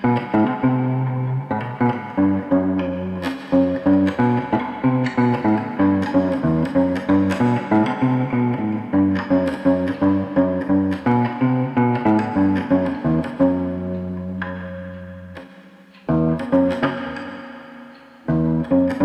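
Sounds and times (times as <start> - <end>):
bass line: 0.0 - 15.4
plucked guitar: 0.0 - 19.0.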